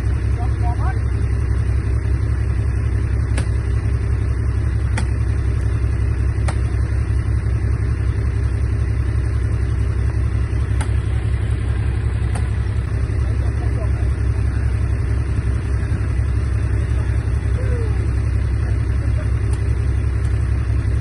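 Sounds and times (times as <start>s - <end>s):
bulldozer diesel engine rumbling: 0.0s - 21.0s.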